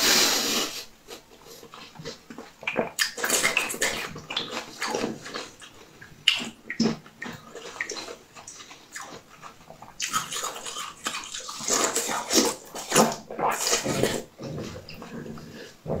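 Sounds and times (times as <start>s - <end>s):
chewing and crunching food: 1.1s - 16.0s.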